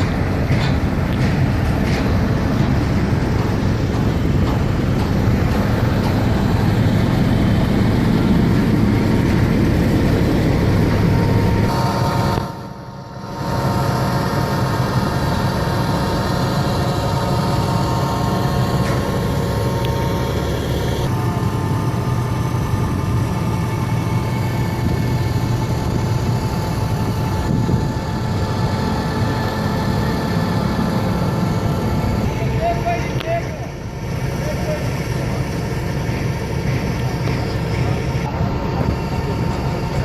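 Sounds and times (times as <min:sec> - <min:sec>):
steady whine: 0:00.0 - 0:40.0
truck engine droning: 0:00.0 - 0:40.0.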